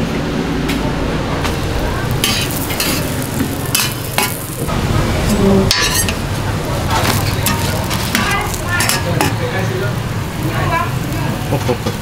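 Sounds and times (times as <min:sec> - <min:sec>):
flatbread sizzling on a griddle: 0:01.5 - 0:12.0.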